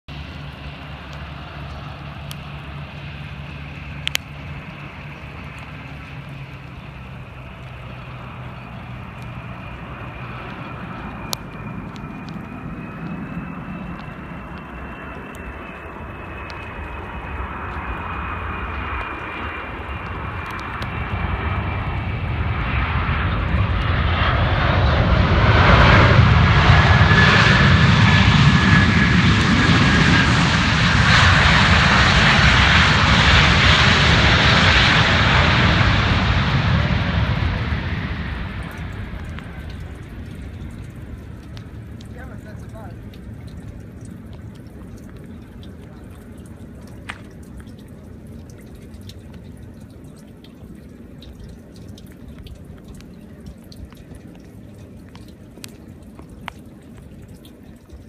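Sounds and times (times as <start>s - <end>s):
jet engines whining and rushing: 0.1s - 58.0s.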